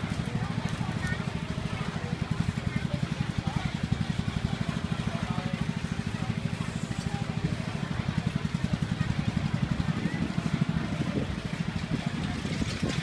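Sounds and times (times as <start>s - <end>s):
faint voices: 0.0s - 13.0s
small engine idling: 0.0s - 13.0s.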